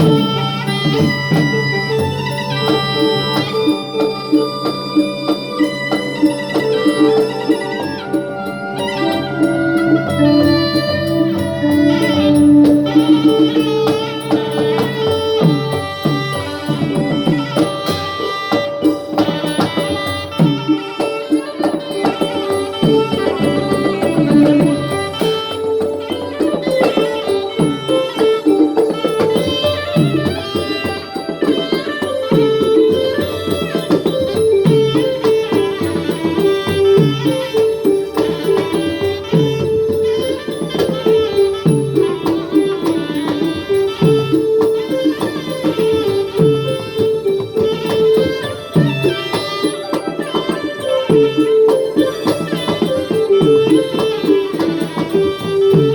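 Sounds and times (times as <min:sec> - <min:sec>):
fast steady drumming: 0:00.0 - 0:55.9
melodic instrument line: 0:00.0 - 0:55.9
rattling percussion: 0:00.0 - 0:55.9.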